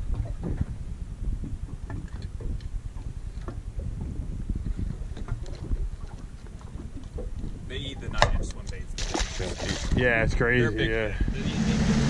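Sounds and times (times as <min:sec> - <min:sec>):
water moving against hull: 0:00.0 - 0:12.0
wind buffeting microphone: 0:00.0 - 0:12.0.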